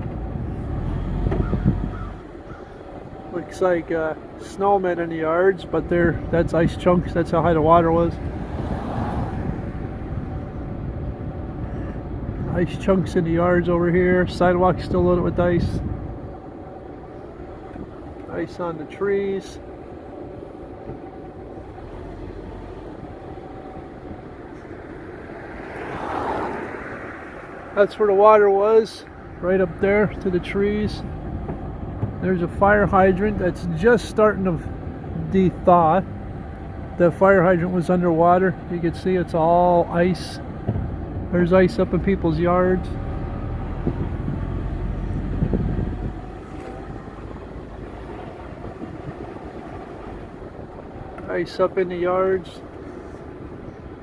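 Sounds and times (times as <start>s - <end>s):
car driving along street: 0.0s - 54.0s
vehicle rumble on road: 0.0s - 54.0s.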